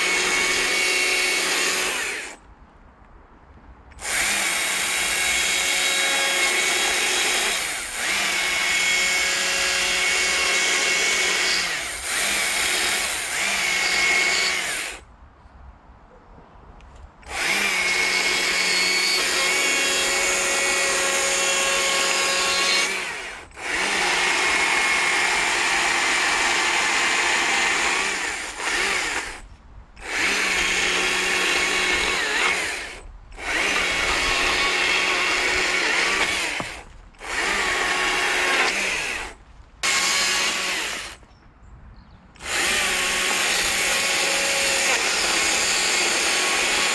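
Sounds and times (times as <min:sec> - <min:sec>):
chainsaw cutting wood: 0:00.0 - 0:02.4, 0:04.0 - 0:15.0, 0:17.2 - 0:41.2, 0:42.4 - 0:46.9.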